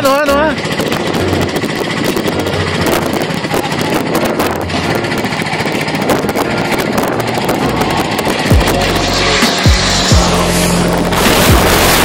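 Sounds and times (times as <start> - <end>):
loud engine noise: 0.0 - 12.0.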